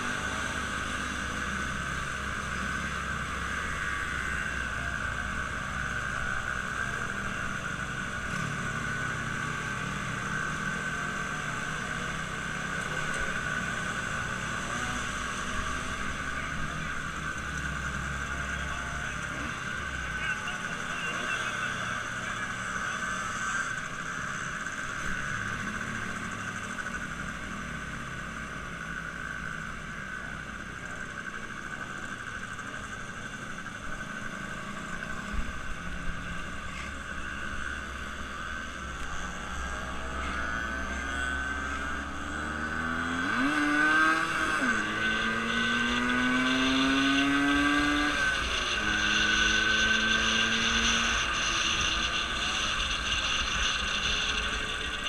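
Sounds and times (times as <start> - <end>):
motor vehicle engine running: 0.0 - 55.0.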